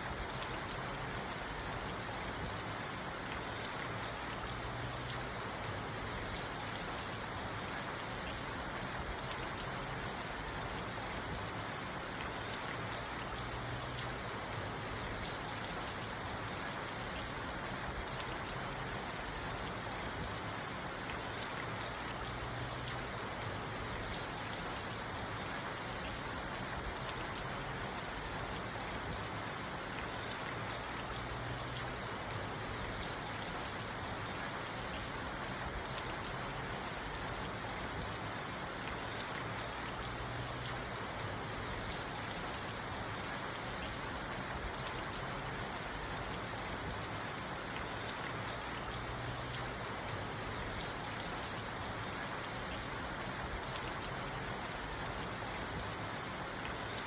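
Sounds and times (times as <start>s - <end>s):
rain drumming on a car roof: 0.0s - 57.0s.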